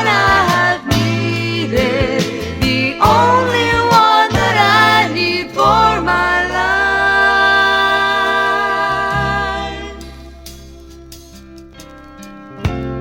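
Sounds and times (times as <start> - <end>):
gospel singing with bass: 0.0 - 11.6.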